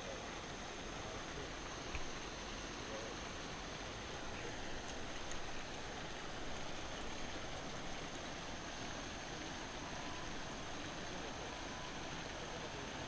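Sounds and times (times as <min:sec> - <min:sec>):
faint high steady tone: 0:00.0 - 0:13.0
fountain splashing: 0:00.0 - 0:13.0.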